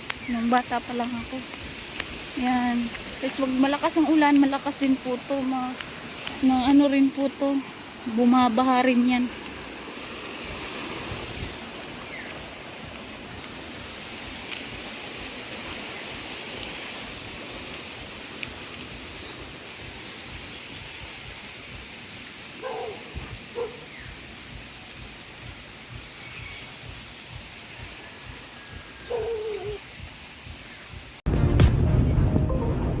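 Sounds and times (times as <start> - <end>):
river water flowing: 0.0 - 31.2.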